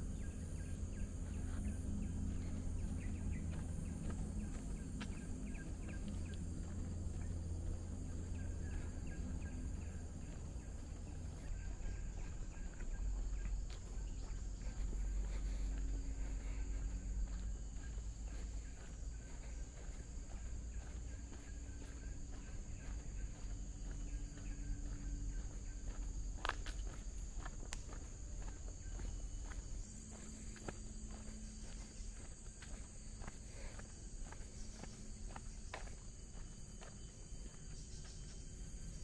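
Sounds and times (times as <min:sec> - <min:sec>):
faint footsteps on path: 0:00.0 - 0:39.0
insects droning: 0:00.0 - 0:39.0.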